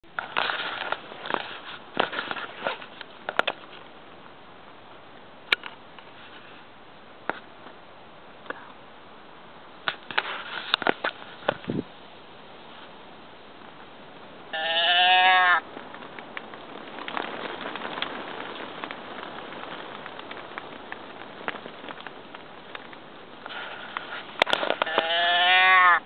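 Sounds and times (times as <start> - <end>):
rustling in dry grass: 0.0 - 7.9, 9.8 - 26.0
low hiss: 0.0 - 26.0.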